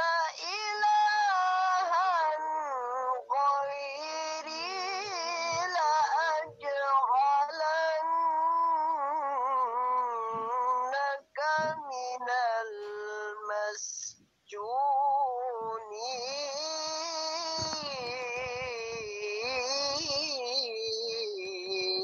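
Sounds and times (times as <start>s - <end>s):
high voice chanting recitation: 0.0s - 22.0s.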